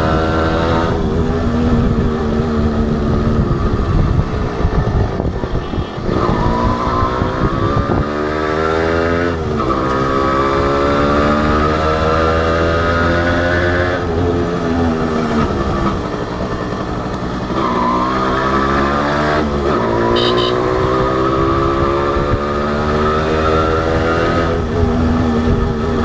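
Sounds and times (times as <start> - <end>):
two-stroke motorcycle engine: 0.0 - 26.0.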